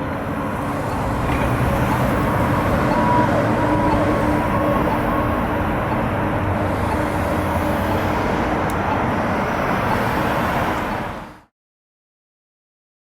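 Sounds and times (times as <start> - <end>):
street traffic noise: 0.0 - 11.5.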